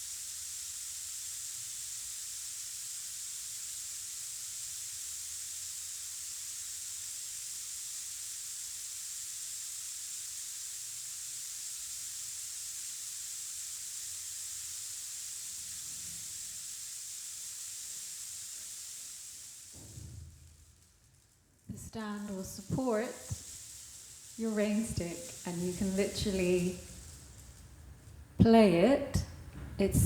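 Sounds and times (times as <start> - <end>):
rainstick beads cascading: 0.0 - 29.5.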